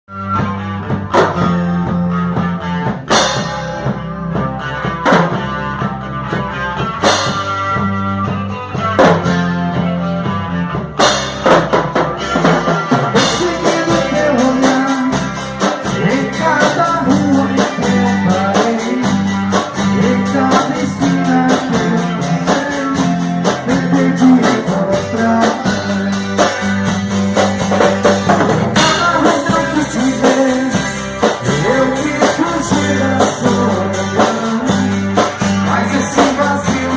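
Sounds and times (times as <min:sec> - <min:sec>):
bass guitar: 0:00.0 - 0:36.9
electric guitar: 0:00.1 - 0:36.9
rock band with drum kit: 0:00.1 - 0:36.9.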